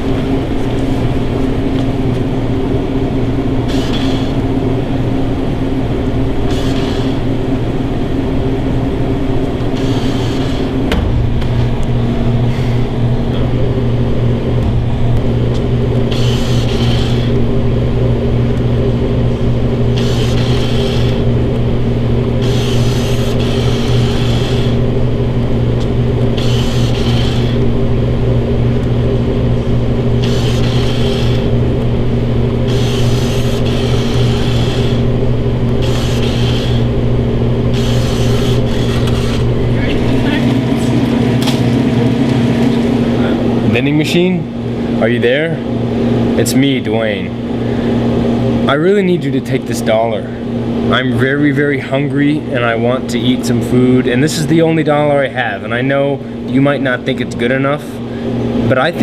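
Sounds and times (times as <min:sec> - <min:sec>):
low mechanical hum: 0:00.0 - 0:59.0.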